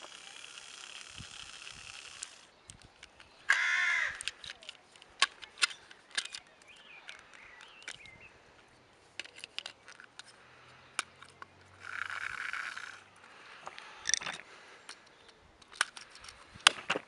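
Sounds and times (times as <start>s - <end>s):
plastic parts clicking and tapping: 0.9s - 13.0s, 13.6s - 17.0s.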